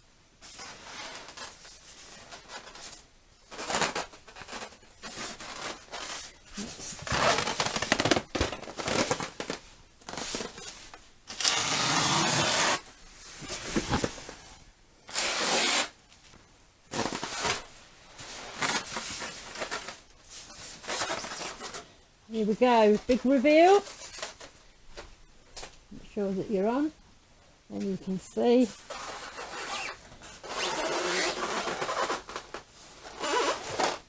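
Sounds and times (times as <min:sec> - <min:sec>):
packaging rustling and scraping: 0:00.4 - 0:21.9, 0:23.4 - 0:24.6, 0:28.7 - 0:34.0.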